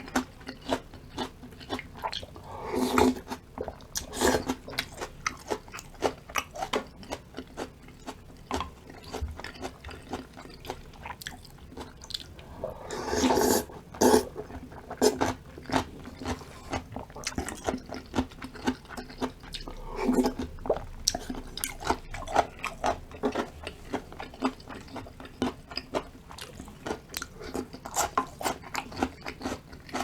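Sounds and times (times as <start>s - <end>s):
close-miked eating crunches: 0.0s - 30.0s.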